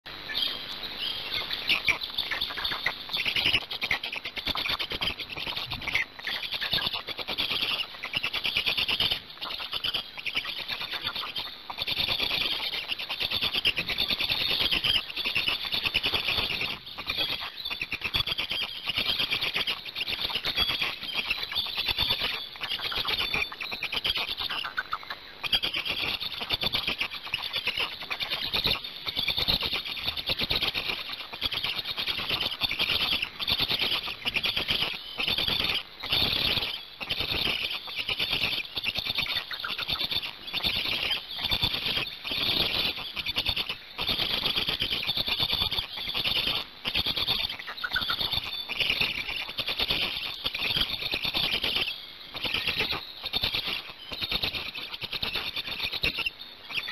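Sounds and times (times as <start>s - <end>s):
stork chicks chittering: 0.1s - 56.9s.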